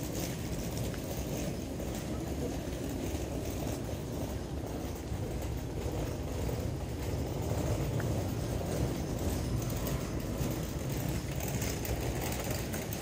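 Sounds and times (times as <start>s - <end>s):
suitcase wheels rolling on pavement: 0.0s - 13.0s.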